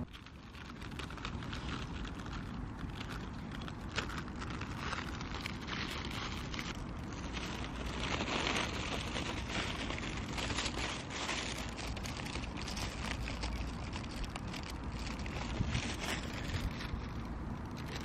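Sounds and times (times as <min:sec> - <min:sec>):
wind blowing across microphone: 0:00.0 - 0:18.0.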